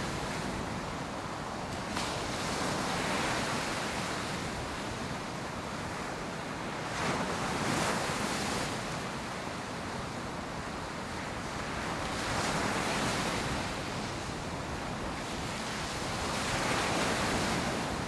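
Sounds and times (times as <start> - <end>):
waves breaking on a beach: 0.0 - 18.0.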